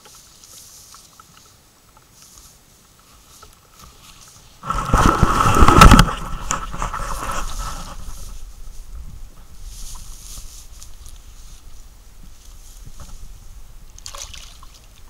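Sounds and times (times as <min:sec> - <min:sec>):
rustling through reeds: 0:00.0 - 0:15.0.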